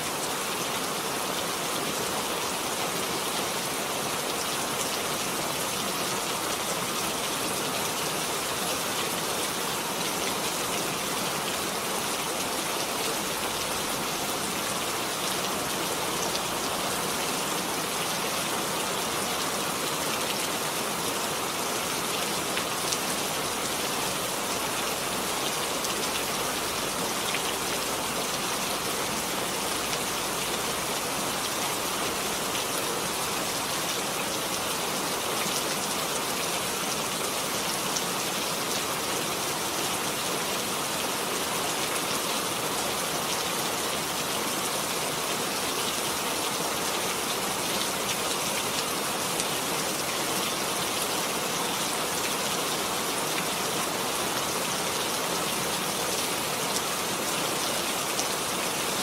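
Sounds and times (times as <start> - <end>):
rain pattering on a surface: 0.1 - 59.0.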